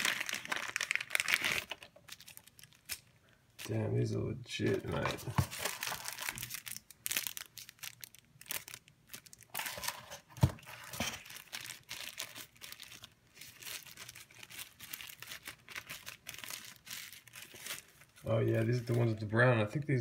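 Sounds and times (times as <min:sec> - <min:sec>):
paper packaging crinkling: 0:00.0 - 0:03.8, 0:04.6 - 0:19.4.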